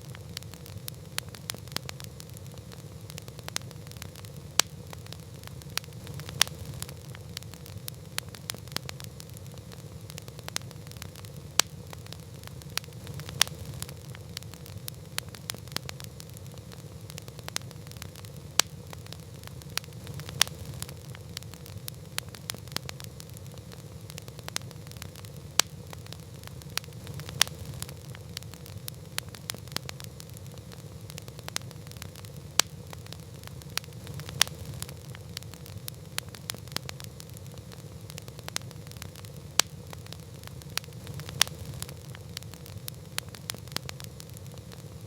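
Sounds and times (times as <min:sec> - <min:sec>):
low rumble of burning: 0:00.0 - 0:45.0
wood fire popping and snapping: 0:00.0 - 0:45.0.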